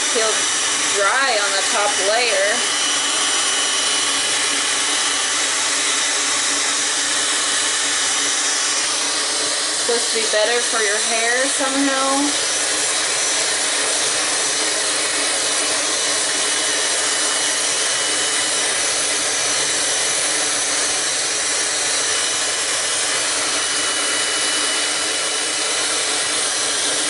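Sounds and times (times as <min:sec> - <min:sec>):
hair dryer blowing air: 0:00.0 - 0:27.0.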